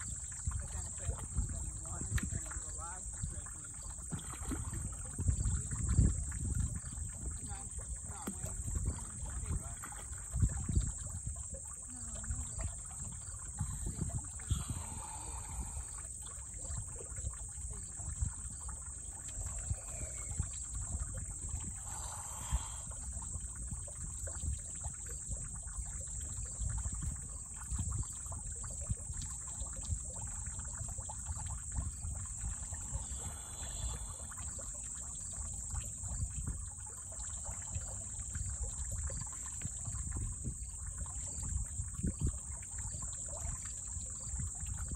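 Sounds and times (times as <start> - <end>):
high-pitched insect chorus: 0.0 - 44.9
muddy water sloshing: 0.0 - 44.9.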